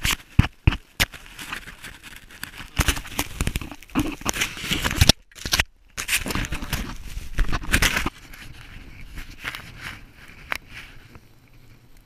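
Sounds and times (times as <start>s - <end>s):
camera rubbing against clothing: 0.0s - 12.0s.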